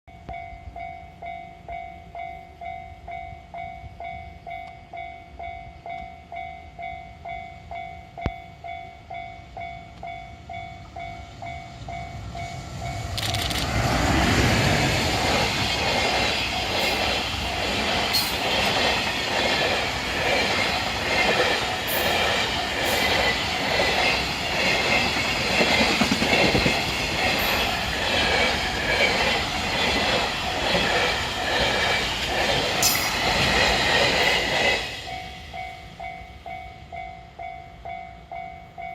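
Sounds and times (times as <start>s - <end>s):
level-crossing warning bell: 0.1s - 13.5s, 14.8s - 38.9s
freight train rumble: 0.2s - 38.9s.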